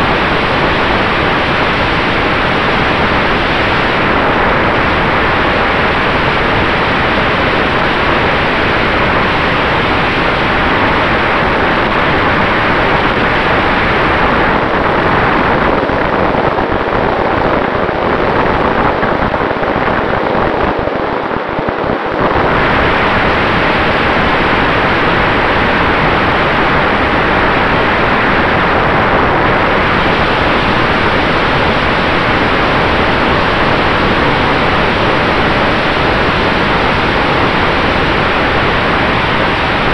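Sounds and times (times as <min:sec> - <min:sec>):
faint steady hum: 0:00.0 - 0:39.9
propeller and airflow rushing: 0:00.0 - 0:39.9.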